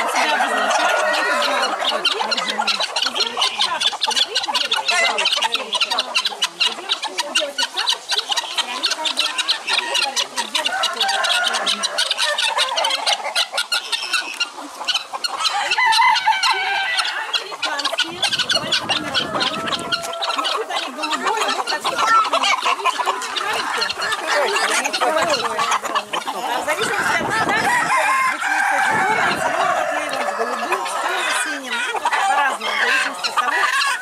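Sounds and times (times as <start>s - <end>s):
chickens clucking: 0.0s - 34.0s
guineafowl calling: 0.0s - 34.0s.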